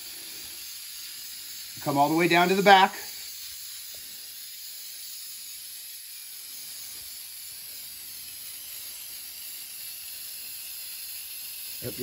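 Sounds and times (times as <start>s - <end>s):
aerosol spray can hissing: 0.0s - 12.0s.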